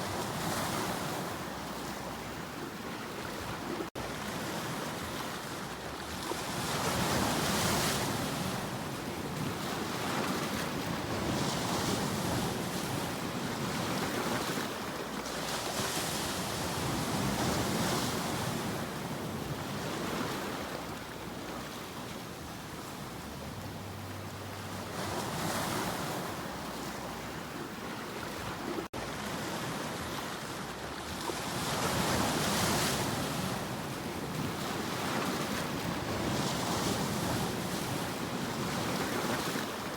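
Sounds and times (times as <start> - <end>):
waves breaking: 0.0 - 39.9
wind: 0.0 - 39.9.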